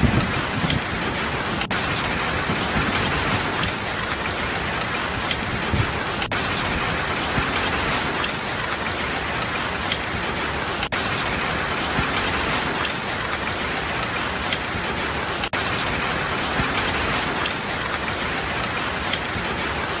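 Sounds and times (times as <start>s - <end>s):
heavy rain on asphalt and cars: 0.0s - 20.0s
raindrops ticking: 0.0s - 20.0s.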